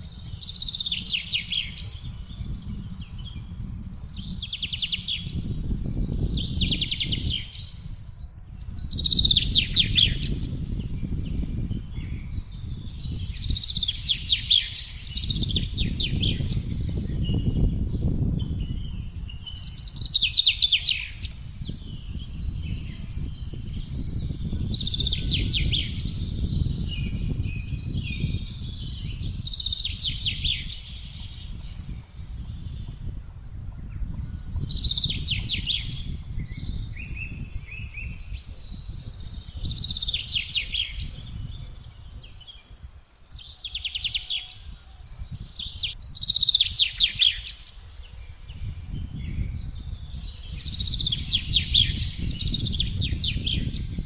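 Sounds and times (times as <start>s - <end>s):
songbird singing: 0.0s - 54.0s
wind rumble: 0.0s - 54.0s.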